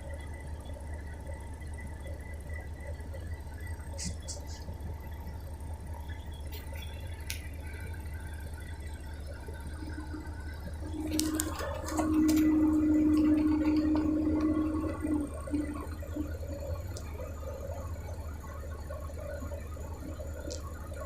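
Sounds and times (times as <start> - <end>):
diesel engine drone: 0.0 - 21.0
hydraulic whine: 0.0 - 21.0.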